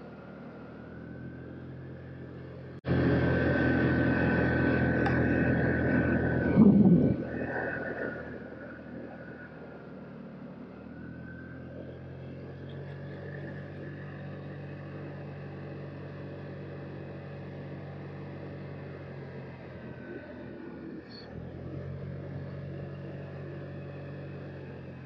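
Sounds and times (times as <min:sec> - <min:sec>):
scooter engine cruising: 0:00.0 - 0:25.0.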